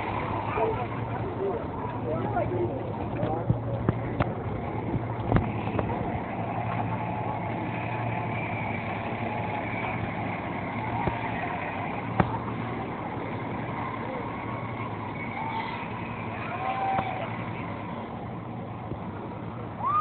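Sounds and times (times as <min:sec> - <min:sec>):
faint distant voices: 0:00.0 - 0:19.9
low hum: 0:00.0 - 0:20.0.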